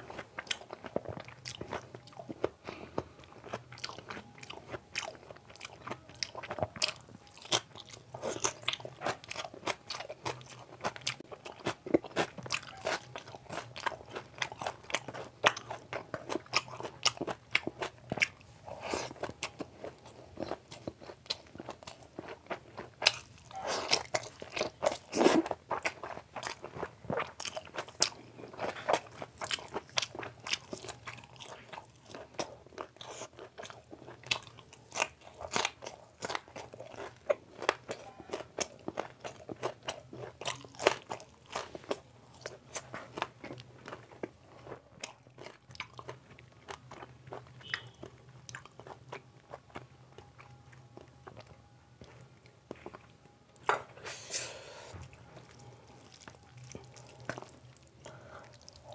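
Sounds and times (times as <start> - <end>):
close chewing with wet smacks: 0.0 - 53.2, 54.9 - 58.9.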